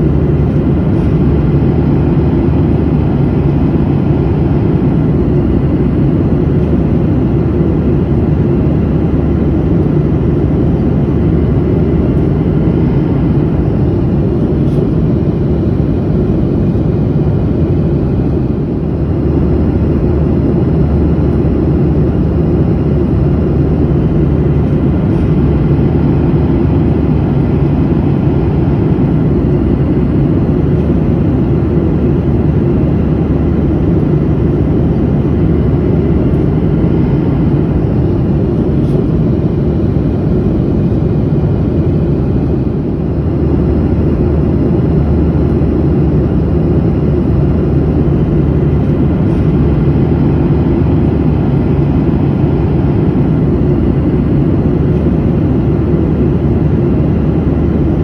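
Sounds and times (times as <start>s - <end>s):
airliner cabin roar: 0.0s - 58.0s.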